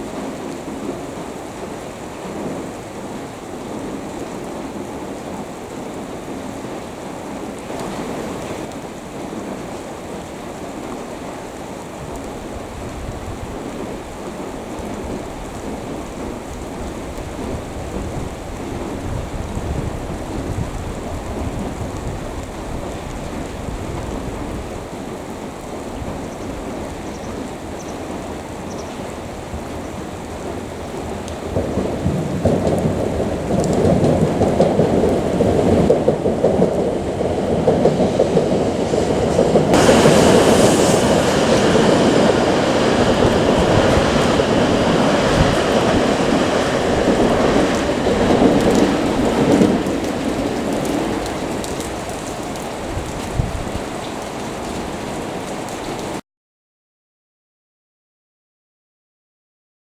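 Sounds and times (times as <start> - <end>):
train rumbling past: 0.0 - 54.2
rain hiss: 0.0 - 56.2.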